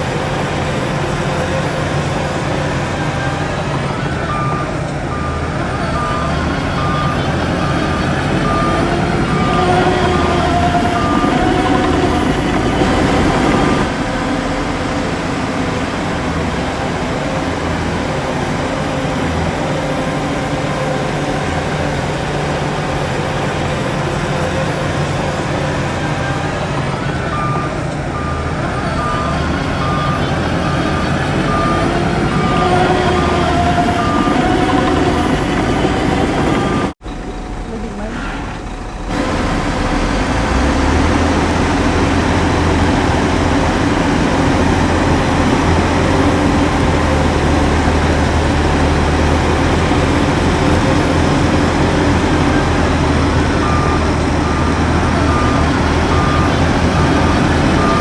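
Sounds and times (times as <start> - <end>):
diesel earthmoving machine engine: 0.0 - 58.0
reversing alarm beeps: 0.0 - 58.0.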